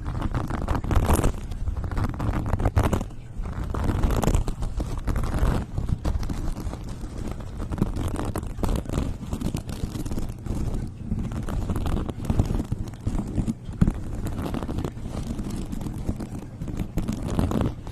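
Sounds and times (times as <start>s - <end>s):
crackling scratching and tapping: 0.0s - 17.9s.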